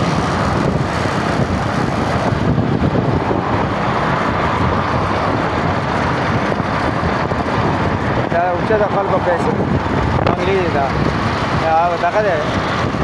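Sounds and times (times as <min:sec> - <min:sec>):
vehicle road noise: 0:00.0 - 0:13.0
wind buffeting microphone: 0:00.0 - 0:13.0.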